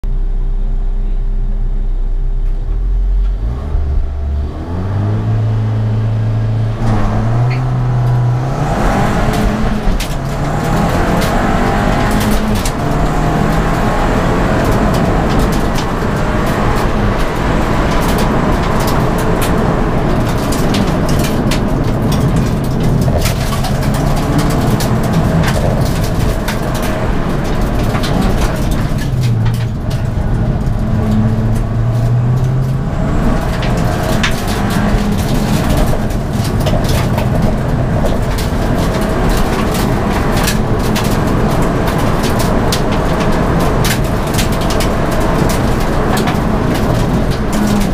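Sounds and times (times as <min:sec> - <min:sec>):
race car engine revving: 0:01.0 - 0:47.9.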